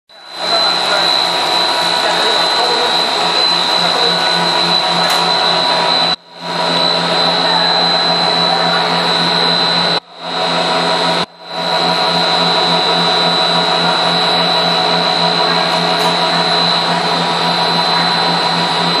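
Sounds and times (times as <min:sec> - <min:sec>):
snack extruder machine drone: 0:00.1 - 0:19.0.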